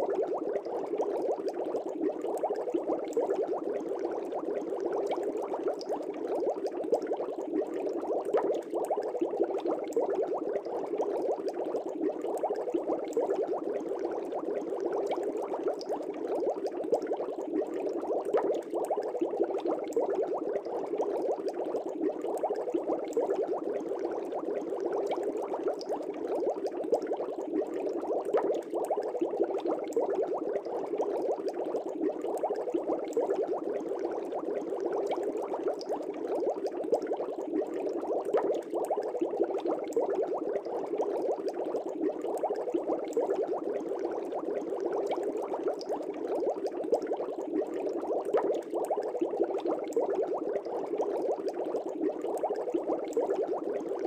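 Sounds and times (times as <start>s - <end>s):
aquarium bubbling: 0.0s - 54.0s.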